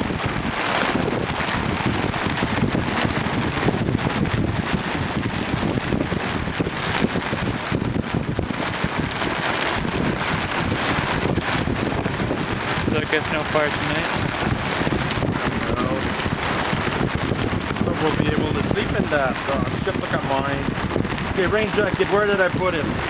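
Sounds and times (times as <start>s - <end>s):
rain falling: 0.0s - 23.0s
wind gusting over microphone: 0.0s - 23.0s.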